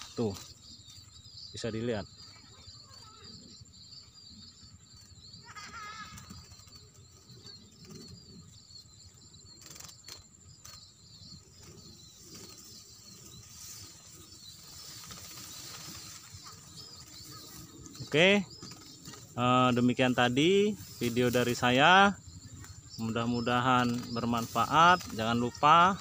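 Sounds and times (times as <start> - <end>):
small birds twittering: 0.0 - 26.0.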